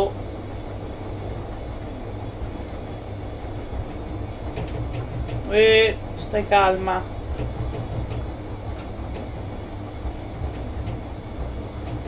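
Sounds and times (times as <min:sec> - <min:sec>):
washing machine drum rumbling: 0:00.0 - 0:12.0.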